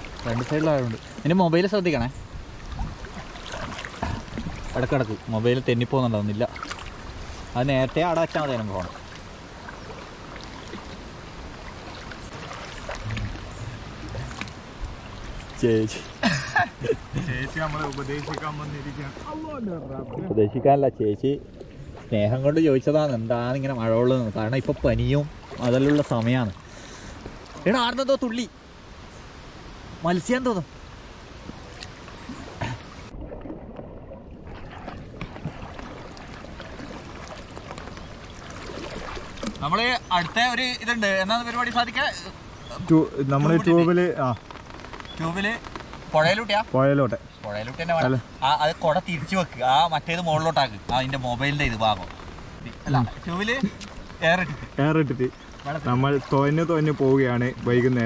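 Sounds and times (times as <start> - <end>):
small water splashes: 0.0 - 28.1, 31.4 - 58.0
people wading through water: 0.0 - 58.0.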